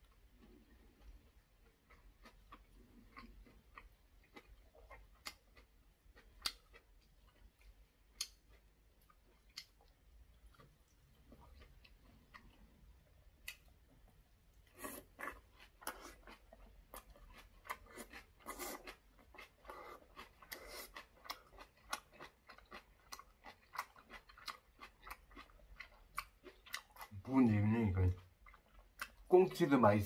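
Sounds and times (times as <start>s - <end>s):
person chewing wet smacks: 0.0s - 27.2s, 28.2s - 29.3s.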